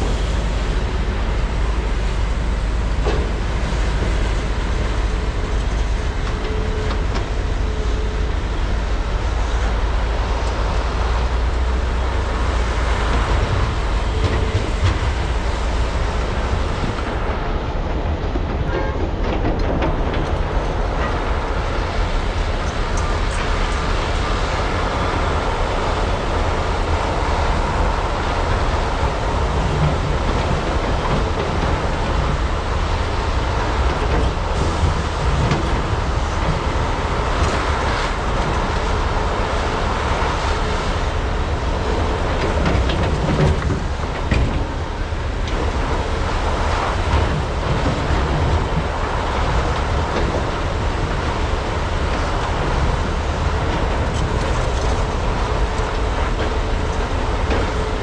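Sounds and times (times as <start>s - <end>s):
excavator engine rumble: 0.0s - 58.0s.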